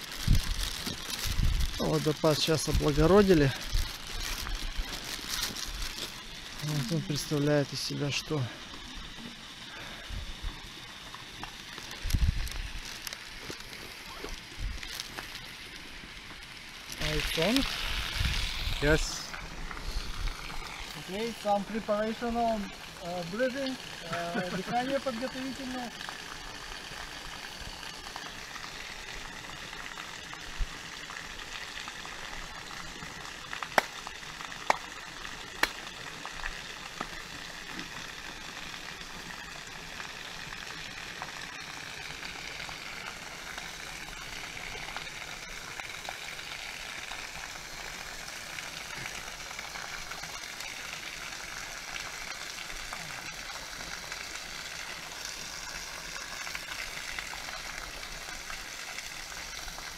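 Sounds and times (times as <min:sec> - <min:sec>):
small waterfall pouring onto rock: 0:00.0 - 0:59.9.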